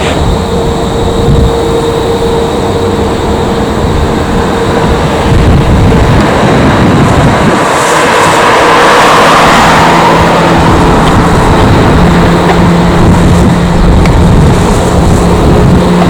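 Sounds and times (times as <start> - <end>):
jet engines whining: 0.0 - 16.0
low rumble: 0.0 - 16.0.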